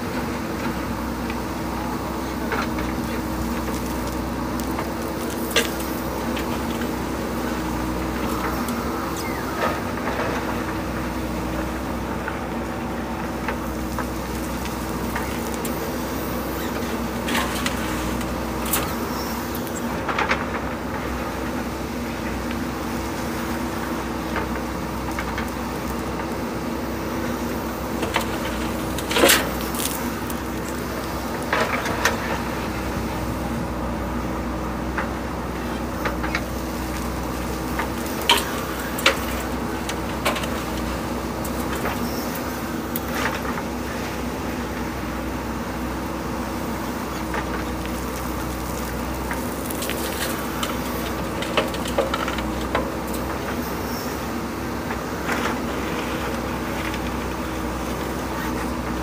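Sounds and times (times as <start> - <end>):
diesel engine running under load: 0.0 - 59.0.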